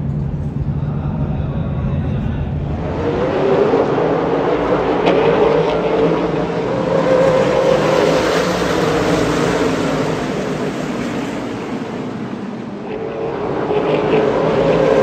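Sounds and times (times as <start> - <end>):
race cars passing at full throttle: 0.0 - 15.0.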